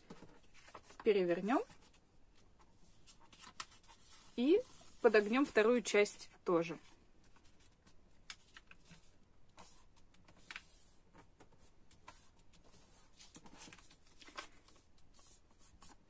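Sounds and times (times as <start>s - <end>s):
paper being folded: 0.1s - 5.6s, 7.2s - 16.0s.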